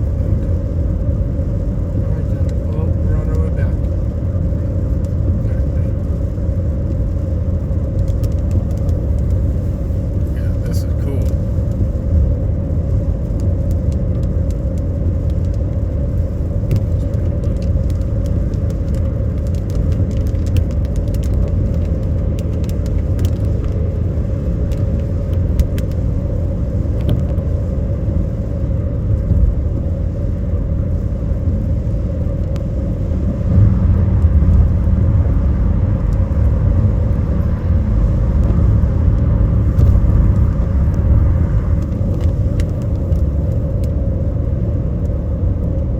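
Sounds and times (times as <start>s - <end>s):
road and engine rumble: 0.0s - 45.9s.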